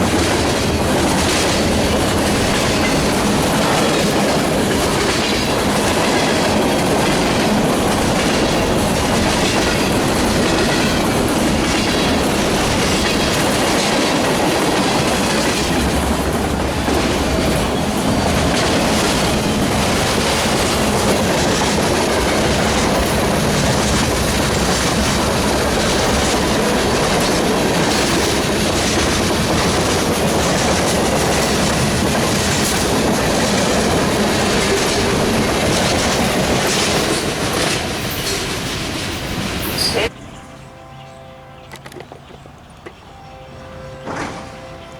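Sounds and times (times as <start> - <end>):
train wheels clicking over rails: 0.0 - 40.1.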